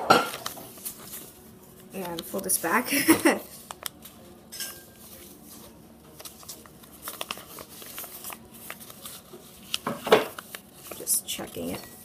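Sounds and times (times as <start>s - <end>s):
paper rustling and crinkling: 0.3s - 12.0s.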